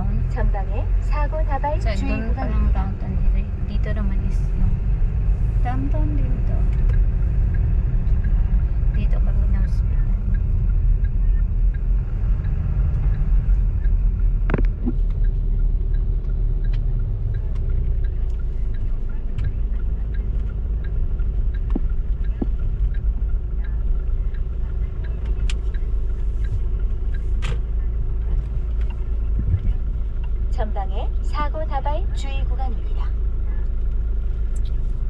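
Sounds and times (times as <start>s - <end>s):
car driving rumble inside cabin: 0.0s - 35.0s.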